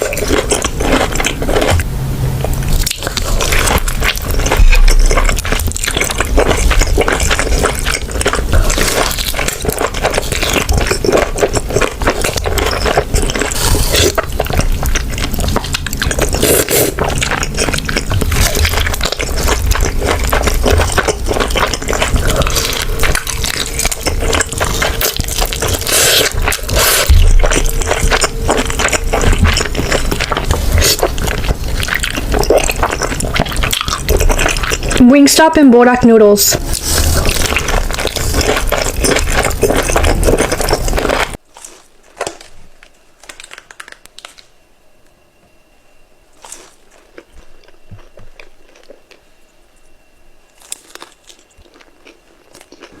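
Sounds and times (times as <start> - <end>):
wet chewing and smacking: 0.0 - 35.4, 36.5 - 44.5, 46.4 - 49.9, 50.5 - 53.0.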